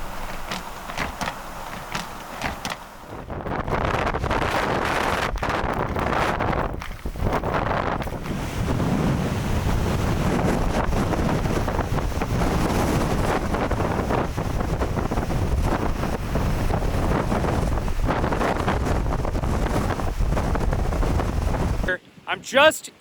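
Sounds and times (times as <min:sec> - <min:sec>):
wind blowing on microphone: 0:00.0 - 0:23.0.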